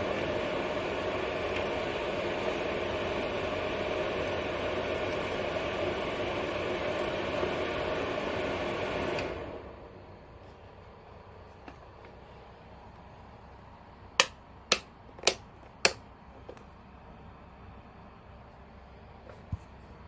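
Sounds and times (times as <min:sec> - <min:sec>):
fan heater running: 0:00.0 - 0:20.0.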